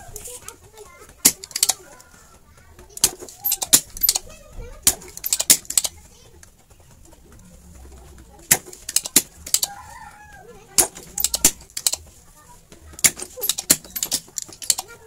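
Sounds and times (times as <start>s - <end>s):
sharp clicks: 0.0s - 9.9s, 10.7s - 12.2s, 12.8s - 15.0s.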